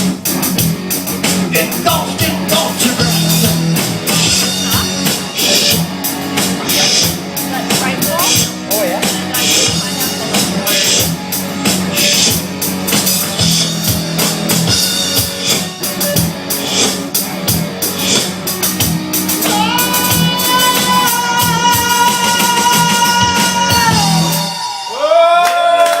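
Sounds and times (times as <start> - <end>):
drum kit hits: 0.0 - 24.4
rock band playing: 0.0 - 25.1.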